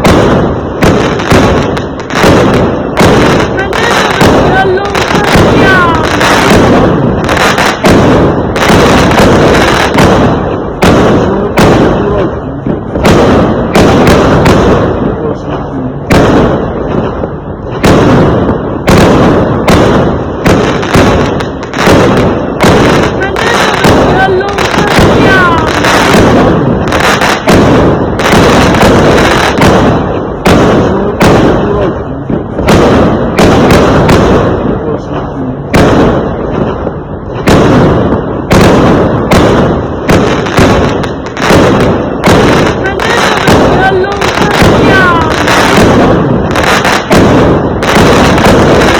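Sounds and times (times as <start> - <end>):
fireworks bangs with rumbling echo: 0.0 - 48.9.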